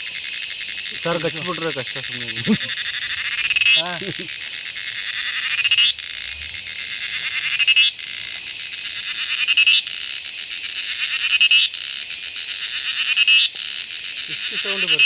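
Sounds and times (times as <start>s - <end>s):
insect pulsing buzz call: 0.0s - 15.0s.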